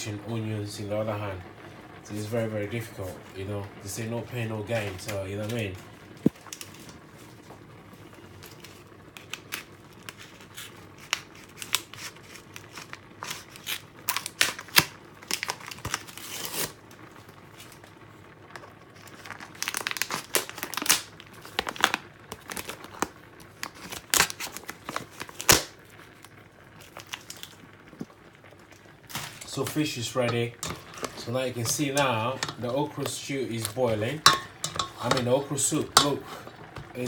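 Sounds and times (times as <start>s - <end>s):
crinkling and tearing of fish: 6.3s - 7.4s, 8.2s - 37.0s.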